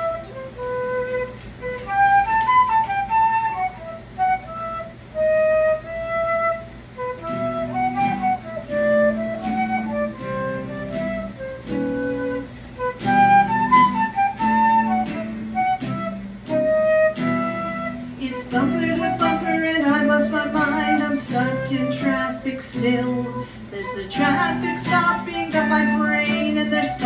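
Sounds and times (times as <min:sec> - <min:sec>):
flute-like wind instrument melody: 0:00.0 - 0:27.0
guitar picking chords: 0:00.0 - 0:27.0.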